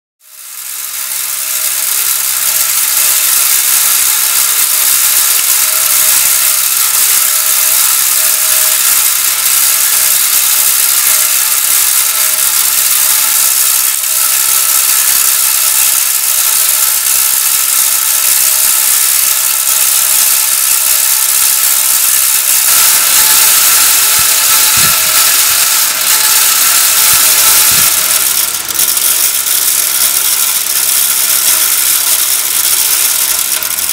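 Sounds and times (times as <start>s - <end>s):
electric fan whirring: 0.2s - 33.9s.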